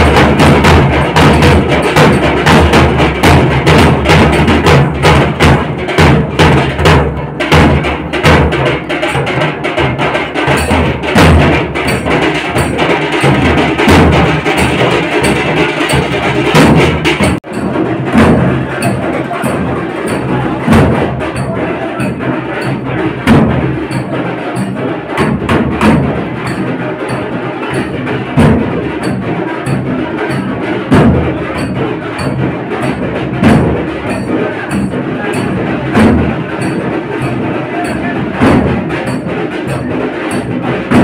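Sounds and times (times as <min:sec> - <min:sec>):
heavy drum strokes: 0:00.0 - 0:41.0.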